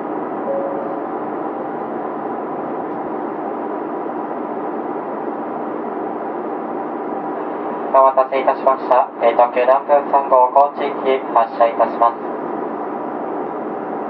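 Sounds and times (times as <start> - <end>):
diesel railcar engines idling: 0.0 - 14.0.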